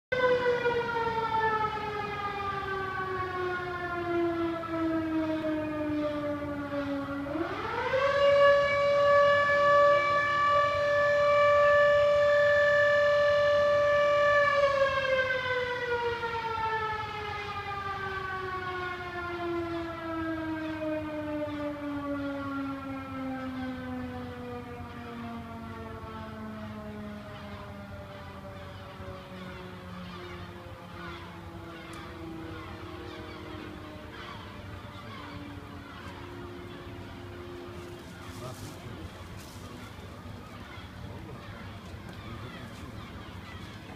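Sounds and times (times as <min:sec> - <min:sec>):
siren wailing: 0:00.1 - 0:43.9.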